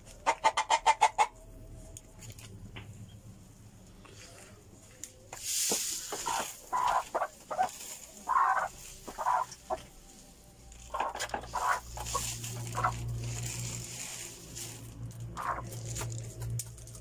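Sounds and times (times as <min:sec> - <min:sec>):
hens clucking: 0:00.0 - 0:01.5, 0:04.7 - 0:17.0.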